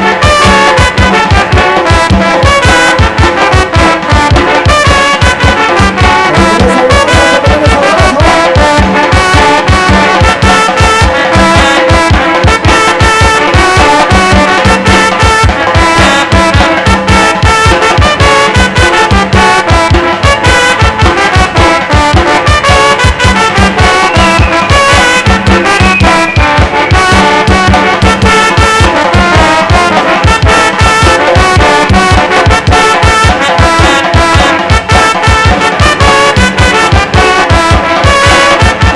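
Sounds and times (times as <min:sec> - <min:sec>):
brass band playing: 0:00.0 - 0:38.9
driving drum beat: 0:00.0 - 0:38.9.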